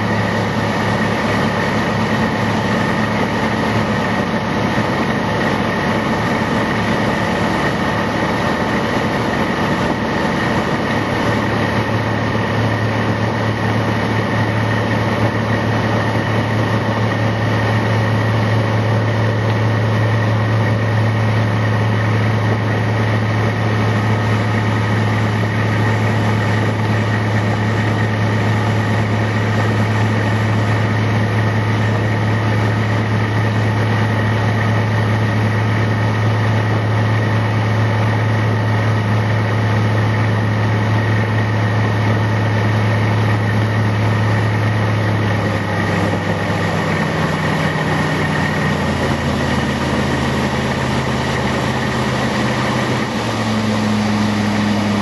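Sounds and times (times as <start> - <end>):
boat engine drone: 0.0 - 55.0
water rushing from wake: 0.0 - 55.0.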